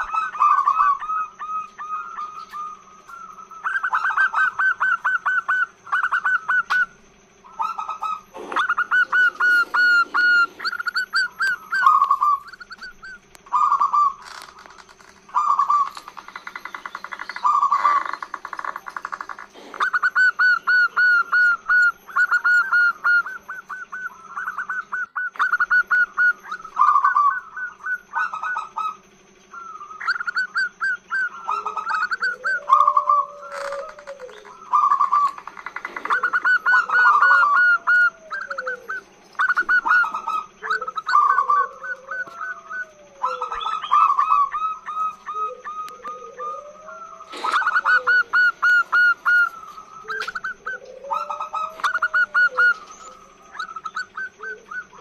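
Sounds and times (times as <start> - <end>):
dove chirping: 0.0 - 55.0
dove cooing: 0.0 - 55.0.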